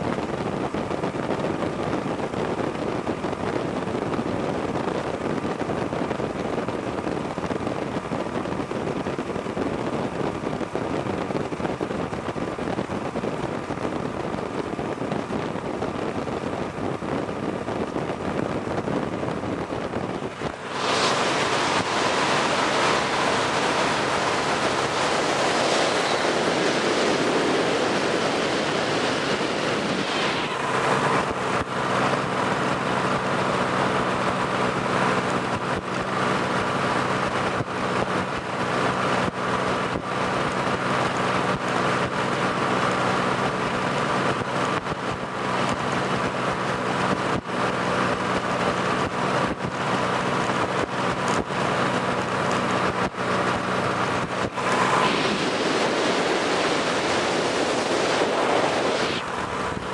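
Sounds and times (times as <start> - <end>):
paramotor engine and propeller: 0.0 - 59.9
wind rush on microphone: 0.0 - 59.9.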